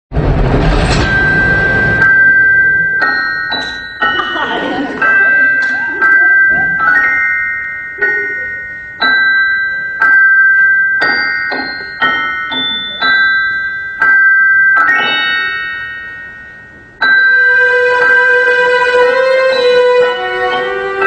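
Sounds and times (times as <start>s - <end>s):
slow chiming bell melody: 1.0s - 21.0s.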